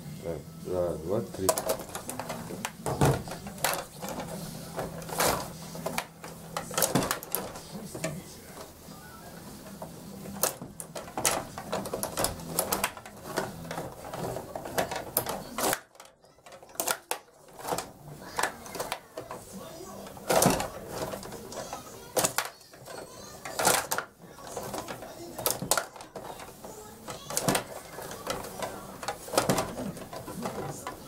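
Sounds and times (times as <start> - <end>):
table hockey rods clattering: 1.1 - 31.0
plastic players clacking on puck: 1.4 - 31.0.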